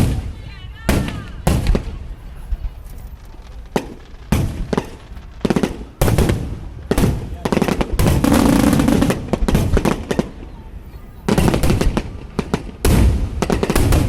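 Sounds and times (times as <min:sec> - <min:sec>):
fireworks crackle: 0:00.0 - 0:14.0
fireworks exploding: 0:00.0 - 0:14.0.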